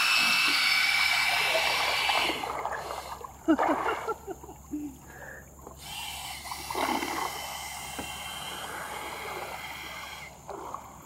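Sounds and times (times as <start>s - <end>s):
churned water hissing: 0.0s - 4.3s, 5.2s - 11.0s.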